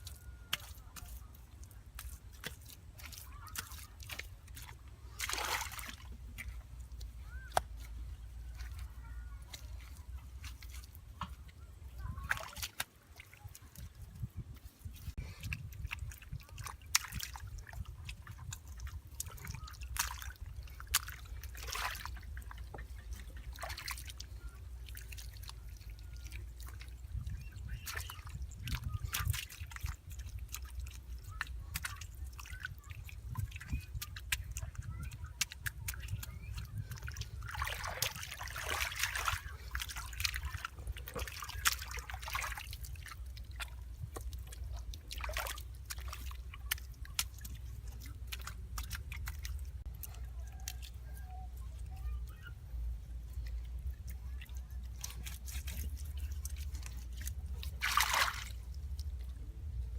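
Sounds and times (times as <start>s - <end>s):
water sloshing and splashing: 0.0s - 59.9s.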